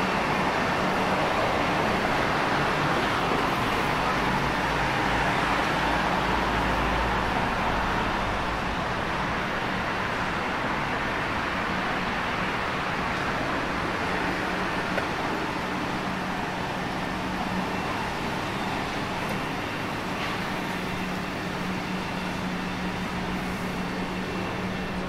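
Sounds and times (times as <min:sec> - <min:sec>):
city road traffic: 0:00.0 - 0:25.0.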